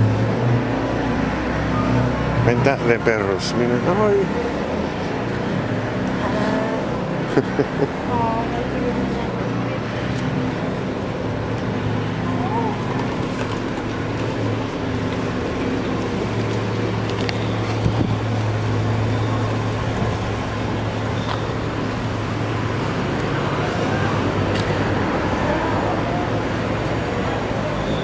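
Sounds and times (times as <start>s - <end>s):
low street hum: 0.0s - 28.0s.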